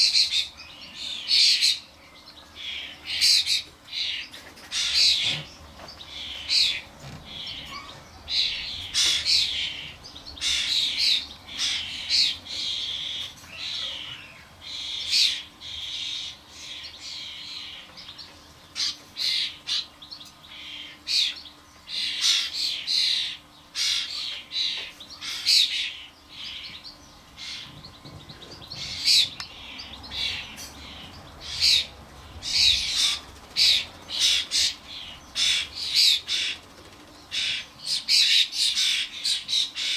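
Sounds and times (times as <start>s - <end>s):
starlings giving harsh rasping calls: 2.6s - 17.8s, 18.8s - 39.9s.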